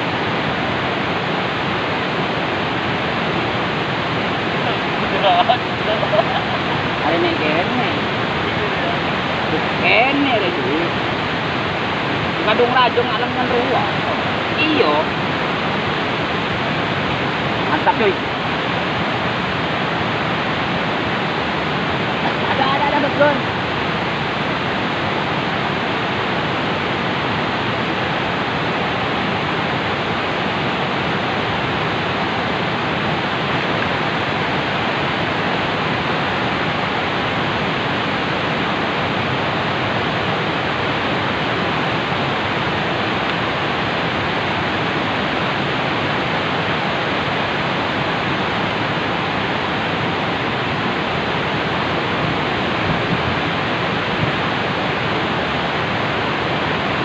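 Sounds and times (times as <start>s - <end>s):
fast-flowing river water rushing: 0.0s - 57.0s.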